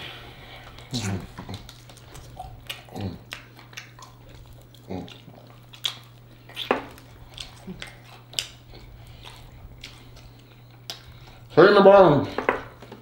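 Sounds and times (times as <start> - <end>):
lip smacks and sucking: 0.6 - 11.5.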